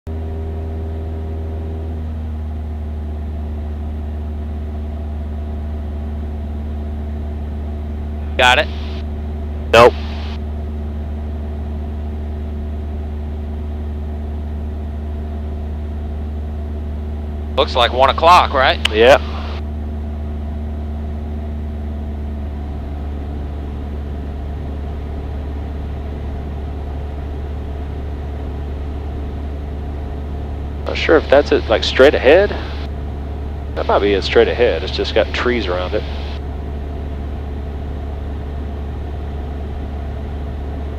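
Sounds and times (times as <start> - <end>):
airplane engine droning: 0.1 - 40.9.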